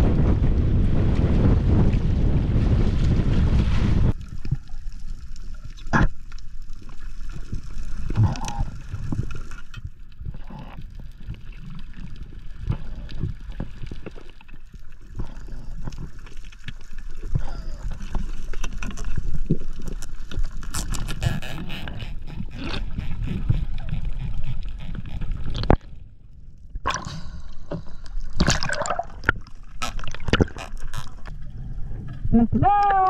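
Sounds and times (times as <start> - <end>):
gurgling water: 0.0 - 33.0.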